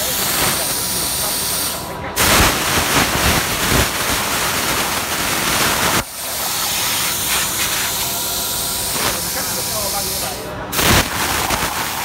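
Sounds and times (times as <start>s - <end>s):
plasma cutter torch hissing: 0.0s - 12.0s.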